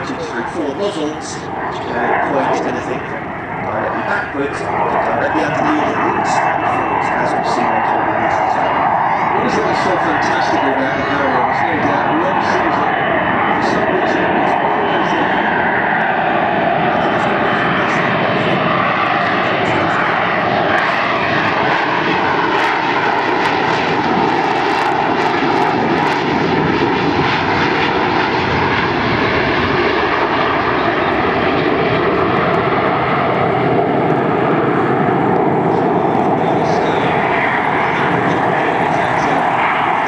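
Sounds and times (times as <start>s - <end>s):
jet engine running loud: 0.0s - 40.0s.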